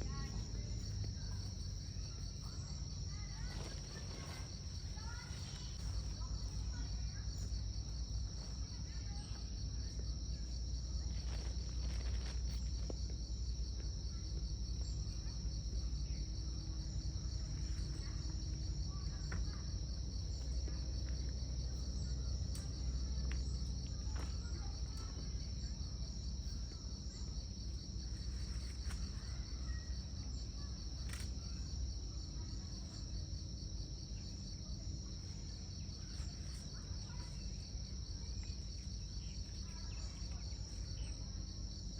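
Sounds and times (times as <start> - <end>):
crickets chirping: 0.0 - 41.9
steady low rumble: 0.0 - 41.9.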